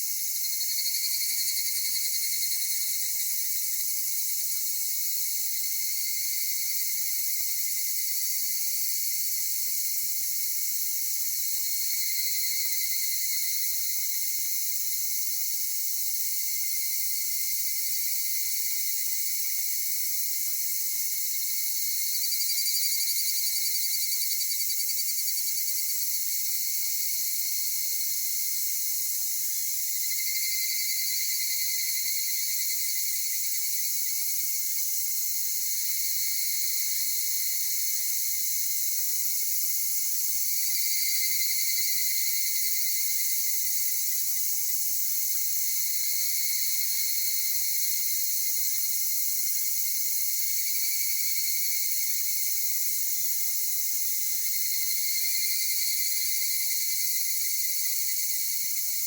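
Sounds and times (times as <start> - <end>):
chorus of singing insects: 0.0 - 59.0
cicadas calling: 10.4 - 59.0.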